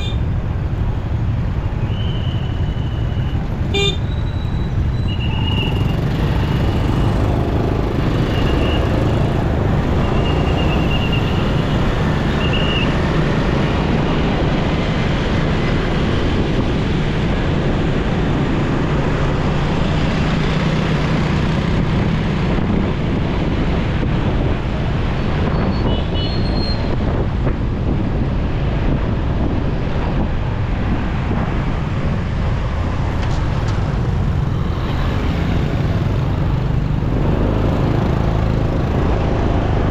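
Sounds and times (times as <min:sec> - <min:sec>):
motorcycle engine and road noise: 0:00.0 - 0:39.9.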